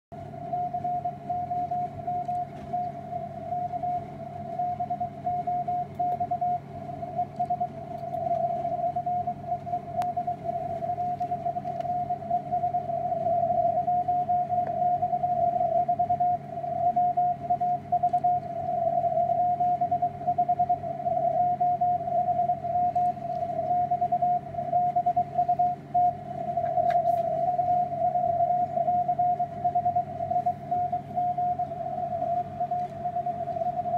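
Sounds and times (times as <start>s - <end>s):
low hum: 0.1s - 33.9s.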